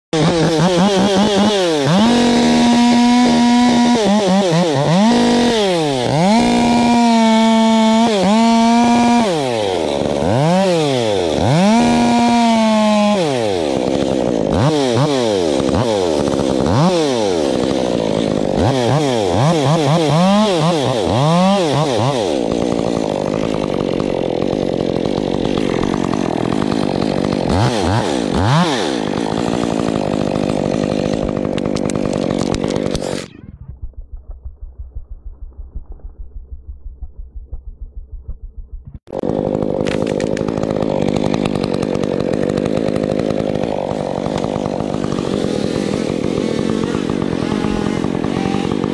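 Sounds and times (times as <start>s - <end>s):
chainsaw revving: 0.1s - 33.6s, 39.0s - 48.9s
chainsaw cutting wood: 0.1s - 37.6s, 38.4s - 48.9s.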